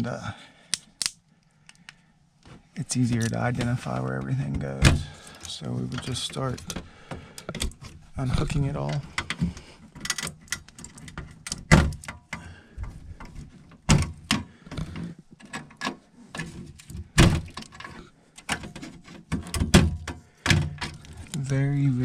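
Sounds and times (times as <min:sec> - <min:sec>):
plugs clicking and knocking: 0:03.1 - 0:21.6.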